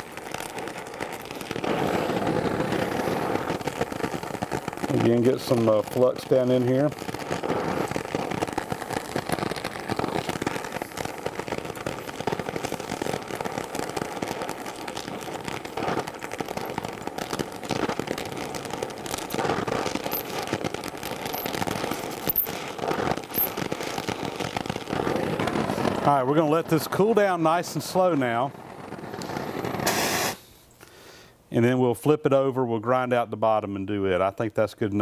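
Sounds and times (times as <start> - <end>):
torch flame hissing: 0.0 - 31.2.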